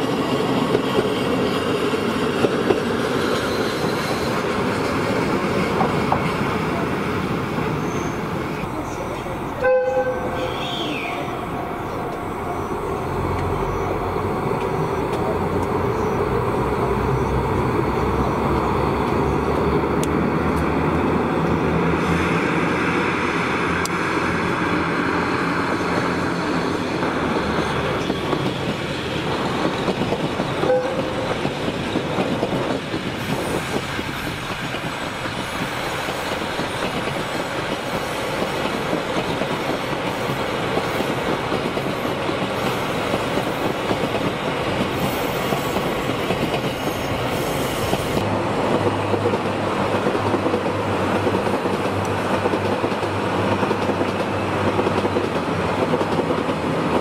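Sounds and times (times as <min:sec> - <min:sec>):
passenger train rumbling past: 0:00.0 - 0:57.0.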